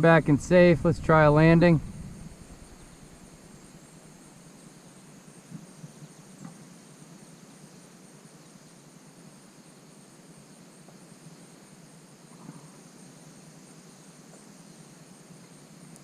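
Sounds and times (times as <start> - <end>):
low outdoor hiss: 0.0 - 16.0.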